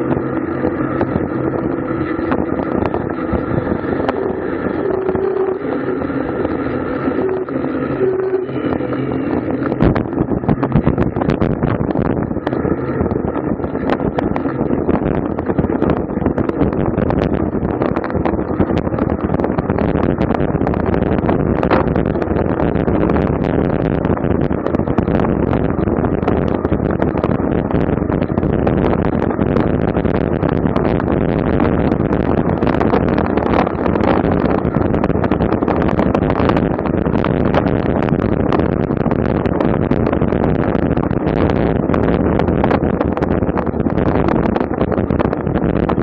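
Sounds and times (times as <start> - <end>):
bicycle rattling and clicking: 0.0 - 46.0
wind buffeting microphone: 0.0 - 46.0.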